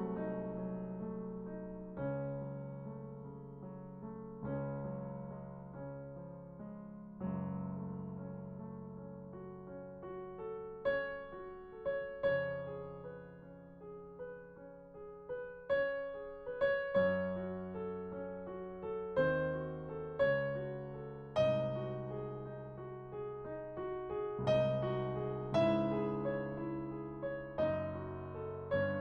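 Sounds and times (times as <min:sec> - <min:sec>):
slow gentle piano: 0:00.0 - 0:29.0.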